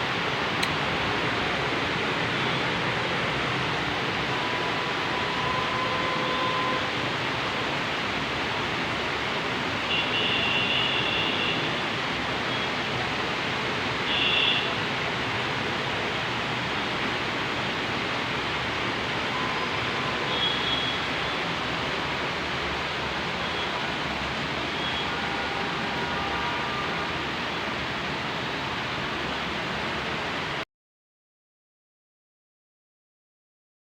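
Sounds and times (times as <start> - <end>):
heavy rain hissing: 0.0 - 30.6.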